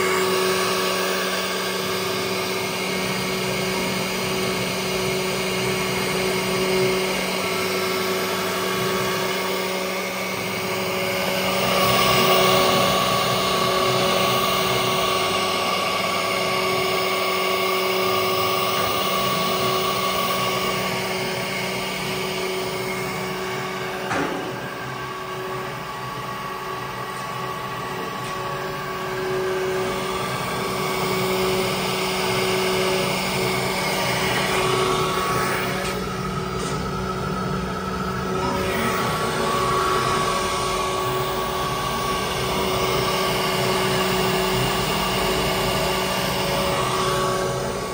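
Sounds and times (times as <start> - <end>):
cnc router hum and whine: 0.0 - 47.9.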